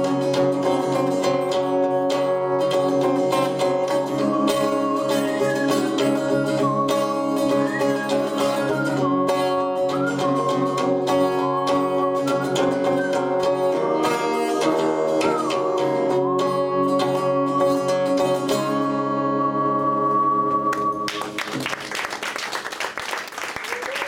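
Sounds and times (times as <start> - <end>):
acoustic guitar strumming: 0.0 - 21.4.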